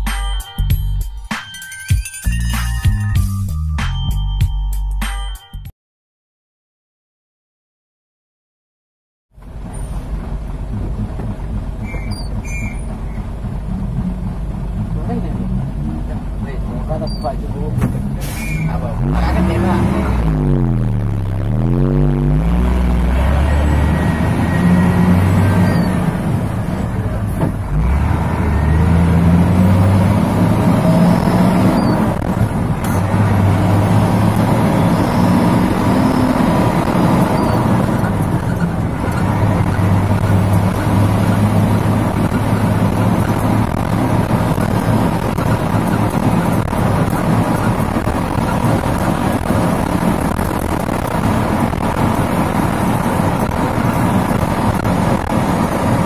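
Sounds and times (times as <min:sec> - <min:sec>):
truck diesel engine working hard: 0:09.4 - 0:56.0.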